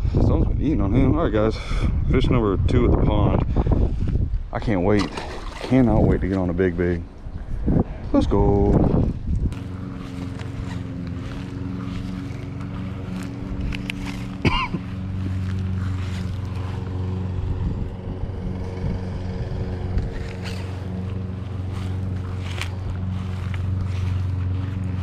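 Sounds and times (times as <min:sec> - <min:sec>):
engine hum: 0:00.0 - 0:25.0.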